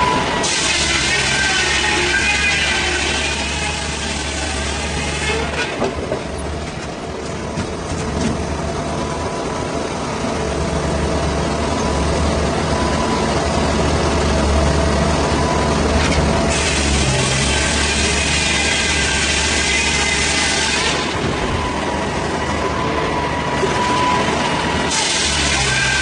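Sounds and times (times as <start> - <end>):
heavy machinery engine humming: 0.0 - 26.0.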